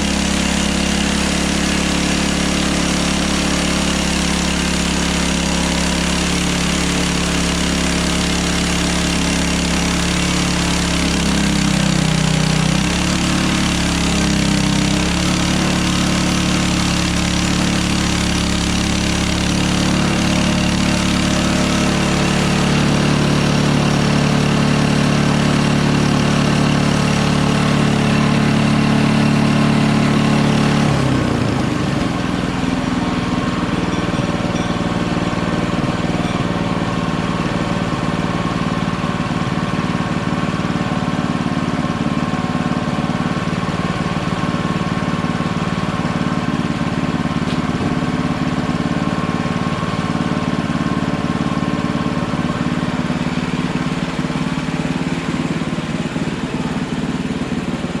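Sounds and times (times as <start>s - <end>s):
bandsaw mill engine running: 0.0s - 58.0s.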